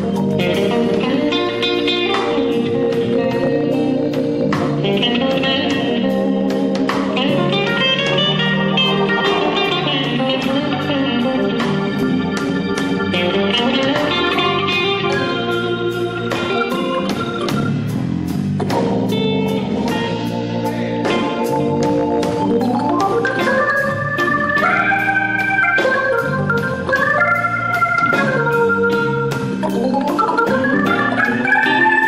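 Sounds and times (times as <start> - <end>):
electronic organ solo: 0.0 - 32.0
steady drum beat: 0.0 - 32.0.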